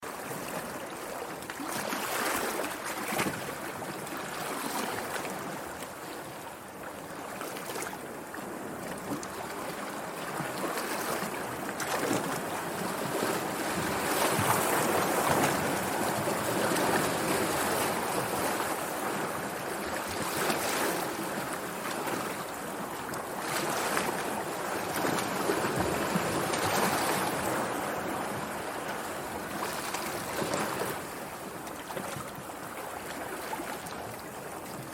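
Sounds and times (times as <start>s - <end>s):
sea waves washing onto beach: 0.2s - 34.9s.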